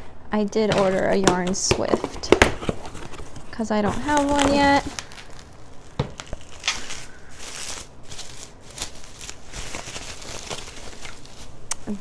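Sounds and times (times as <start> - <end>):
packaging crackling and rustling: 0.6 - 12.0.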